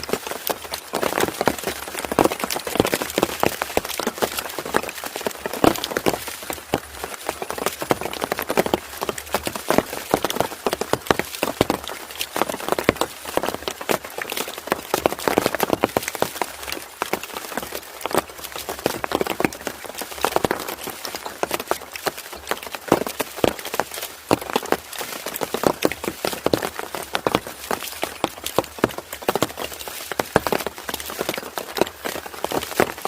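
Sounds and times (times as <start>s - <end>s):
rain drops on hard surface: 0.0s - 33.0s.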